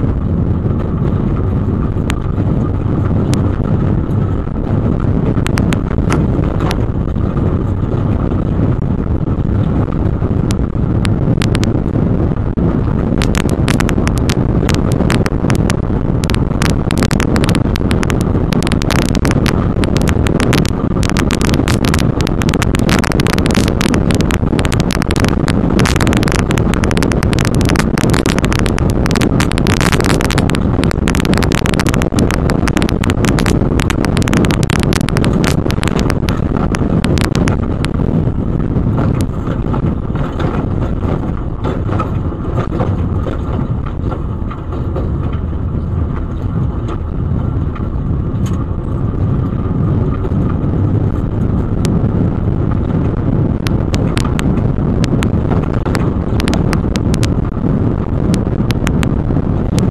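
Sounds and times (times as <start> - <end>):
clatter and rattling: 0.0 - 59.9
engine and tyre rumble: 0.0 - 59.9.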